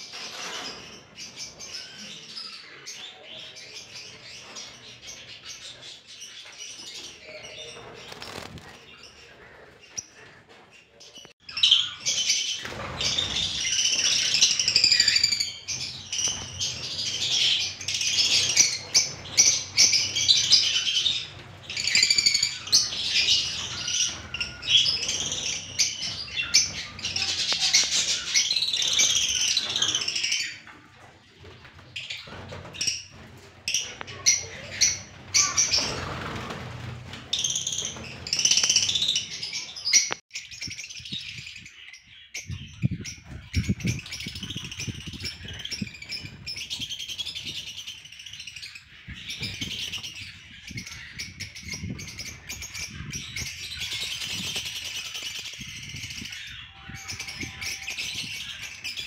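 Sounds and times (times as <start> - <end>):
lovebirds chirping and chattering: 0.0 - 59.0.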